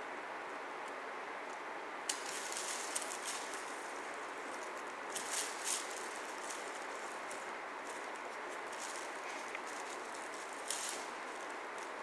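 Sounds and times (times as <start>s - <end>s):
steady hiss: 0.0s - 12.0s
crinkly cat toy rustling: 2.1s - 12.0s.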